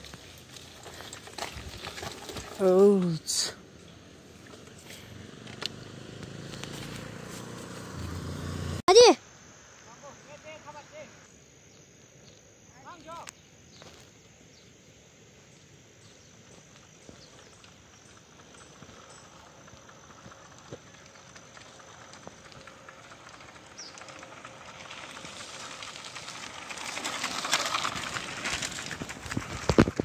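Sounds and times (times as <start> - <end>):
bicycle tyres on gravel: 0.0 - 8.8, 9.9 - 30.0.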